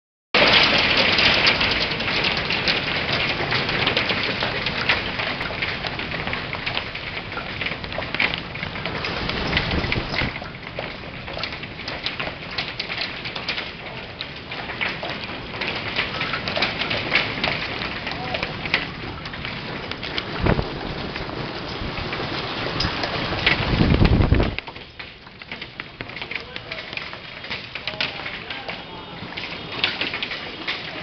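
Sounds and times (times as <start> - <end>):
hail clattering on building: 0.4 - 31.0.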